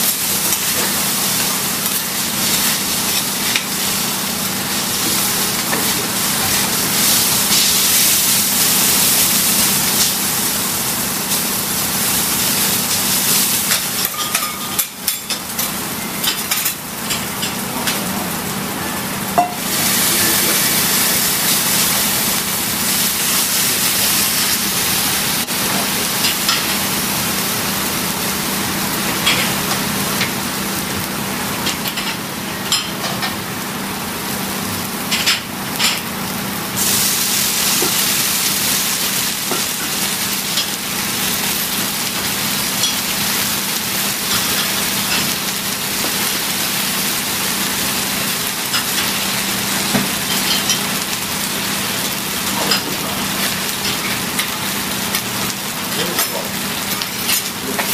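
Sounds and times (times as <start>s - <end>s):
noodles sizzling on griddle: 0.0s - 57.9s.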